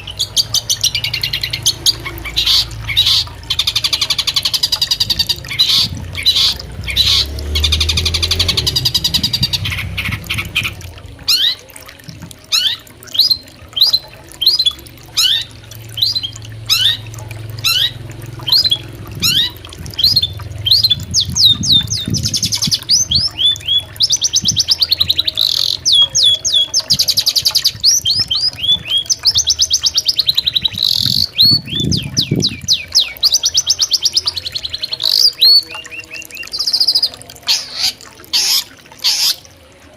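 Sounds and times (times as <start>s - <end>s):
harsh buzzy rasping bird calls: 0.0s - 11.6s, 12.5s - 39.6s.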